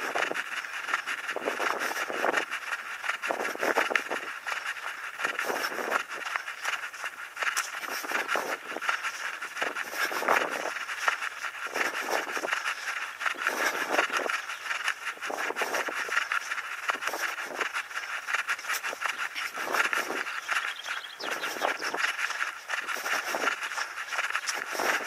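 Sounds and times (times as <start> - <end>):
runner breathing: 0.0 - 25.0
runner's footsteps: 0.0 - 25.0.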